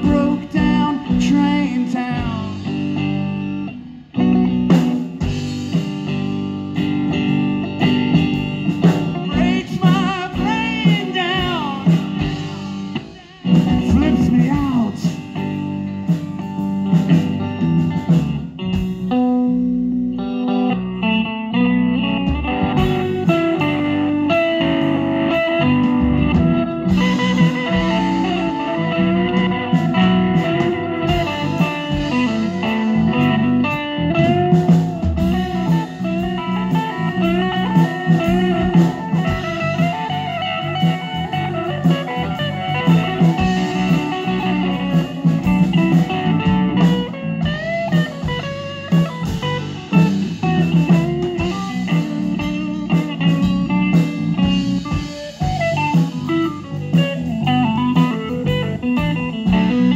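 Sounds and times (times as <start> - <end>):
drums: 0.0 - 59.9
electric guitar lead lines: 0.0 - 59.9.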